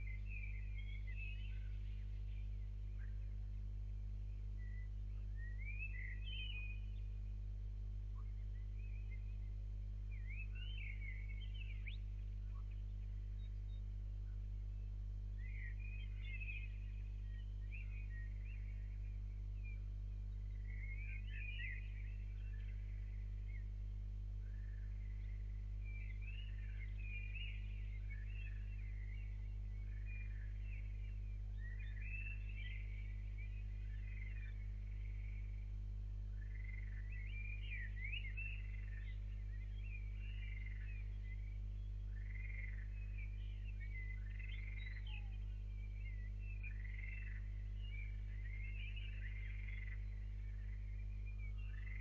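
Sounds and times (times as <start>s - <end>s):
low hum: 0.0s - 52.0s
small birds chirping: 0.0s - 52.0s
songbird warbling: 4.3s - 7.2s, 10.1s - 35.7s, 36.3s - 52.0s.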